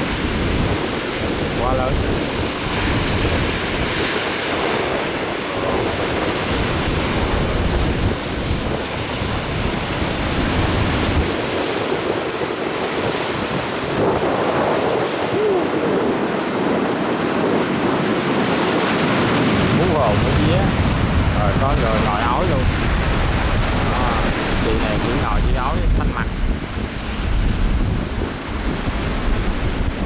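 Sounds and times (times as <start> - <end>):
waves breaking around a boat: 0.0 - 30.0
wind buffeting microphone: 0.0 - 30.0.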